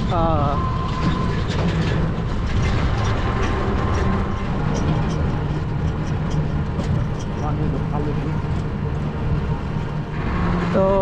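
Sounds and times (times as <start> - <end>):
rickshaw engine rumble: 0.0 - 11.0
road noise: 0.0 - 11.0.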